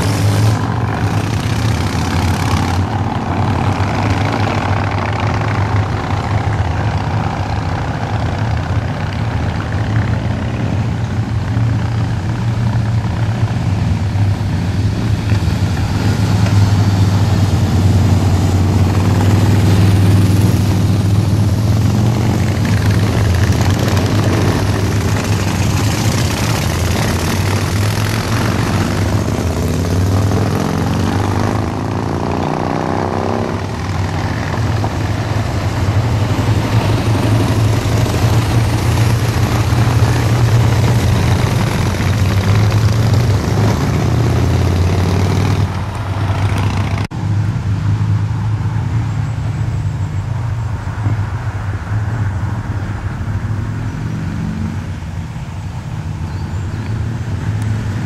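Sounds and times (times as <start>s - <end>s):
motorcycle accelerating: 0.0s - 51.2s
motorcycles engine rumble: 0.0s - 58.0s.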